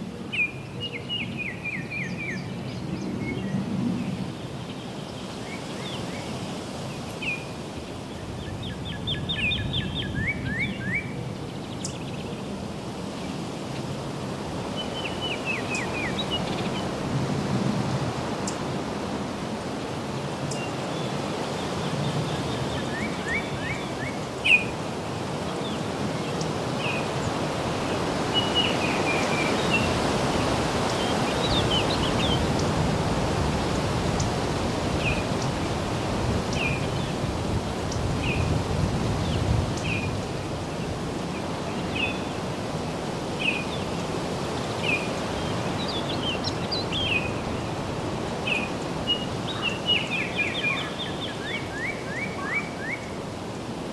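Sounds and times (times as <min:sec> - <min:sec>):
wind in foliage: 0:00.0 - 0:53.9.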